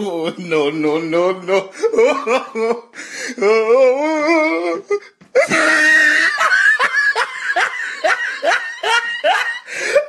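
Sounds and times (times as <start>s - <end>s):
person wailing: 0.0s - 10.0s
person laughing: 1.5s - 10.0s.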